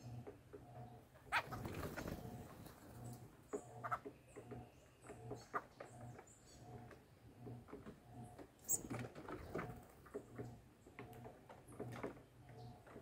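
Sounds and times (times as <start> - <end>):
birds tapping on roof sheets: 0.0 - 13.0.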